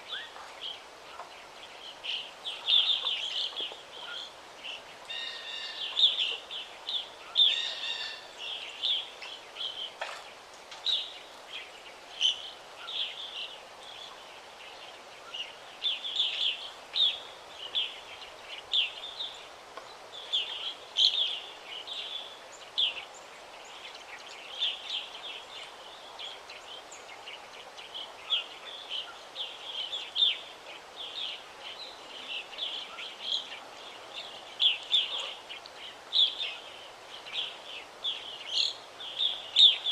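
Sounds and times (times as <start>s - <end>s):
faint background hiss: 0.0s - 39.9s
songbirds chirping and trilling: 0.1s - 39.9s.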